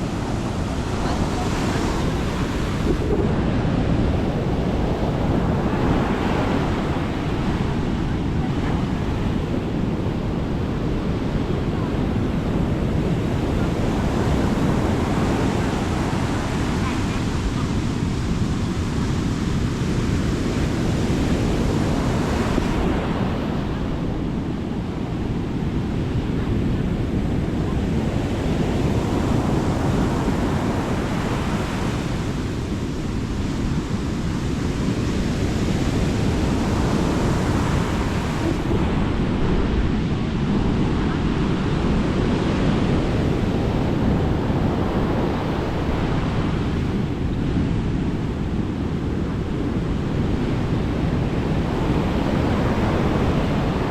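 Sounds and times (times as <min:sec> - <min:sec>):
sea waves breaking on beach: 0:00.0 - 0:53.9
wind rumble on microphone: 0:00.0 - 0:53.9.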